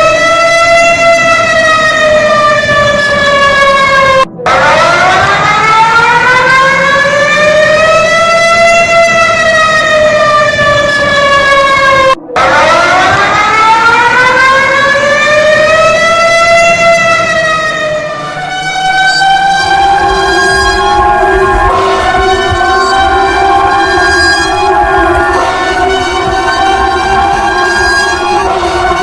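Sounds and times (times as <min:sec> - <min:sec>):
steady multi-tone chord: 0:00.0 - 0:29.0
warning siren wailing: 0:00.0 - 0:29.0.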